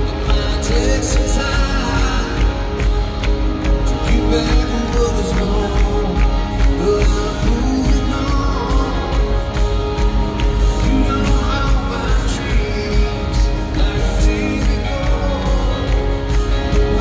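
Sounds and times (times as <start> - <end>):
country band playing live: 0.0 - 17.0
lead singer singing: 0.0 - 17.0.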